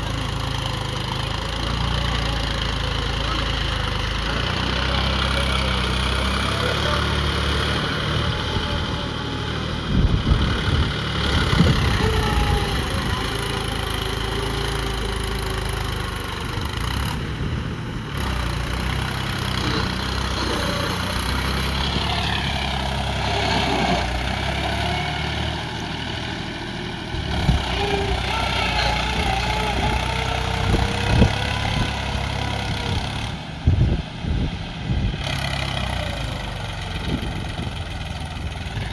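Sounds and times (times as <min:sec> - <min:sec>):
small engine running: 0:00.0 - 0:33.5, 0:34.6 - 0:38.9
engine knocks: 0:00.0 - 0:34.5, 0:35.1 - 0:38.9.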